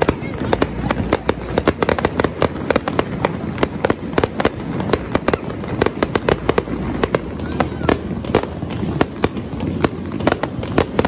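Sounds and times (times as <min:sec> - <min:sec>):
continuous rumble: 0:00.0 - 0:11.0
fireworks bangs and crackles: 0:00.0 - 0:11.0.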